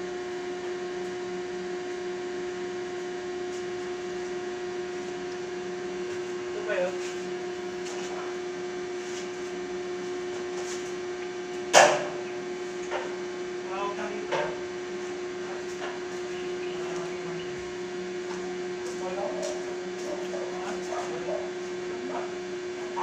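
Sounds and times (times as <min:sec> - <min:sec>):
welding machine humming: 0:00.0 - 0:23.0.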